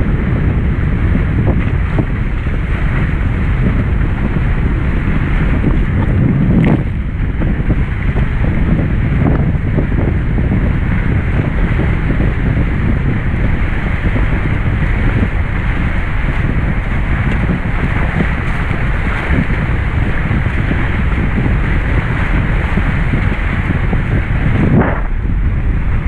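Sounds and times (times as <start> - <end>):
water splashing past hulls: 0.0 - 26.0
wind buffeting microphone: 0.0 - 26.0.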